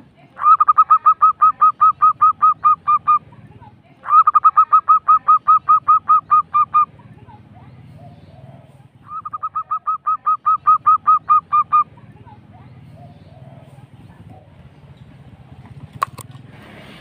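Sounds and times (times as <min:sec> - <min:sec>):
dove cooing: 0:00.4 - 0:15.5.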